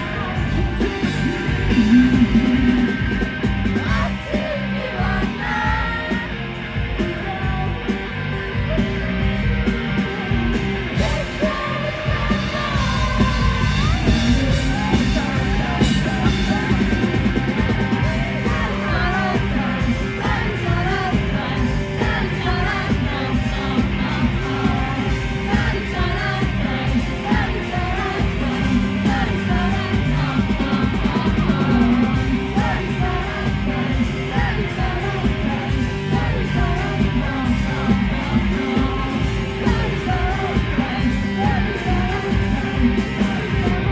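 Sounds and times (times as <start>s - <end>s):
bass guitar: 0.0s - 43.9s
drums: 0.0s - 43.9s
guitars: 0.0s - 43.9s
person singing lead vocal: 0.0s - 43.9s.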